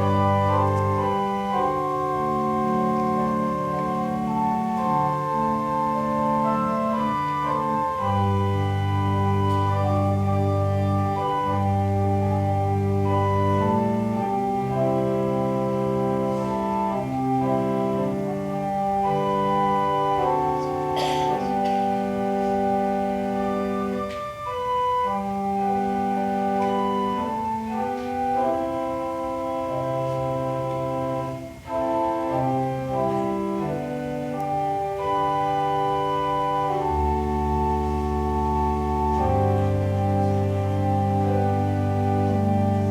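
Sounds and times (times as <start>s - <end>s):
organ playing sustained chords: 0.0s - 42.9s.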